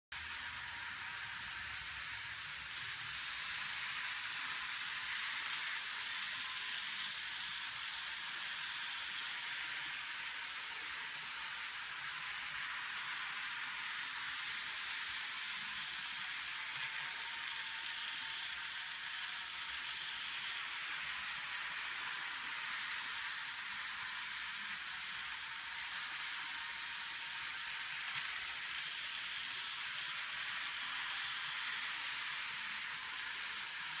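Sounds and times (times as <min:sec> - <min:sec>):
model trains whirring on rails: 0:00.2 - 0:34.0.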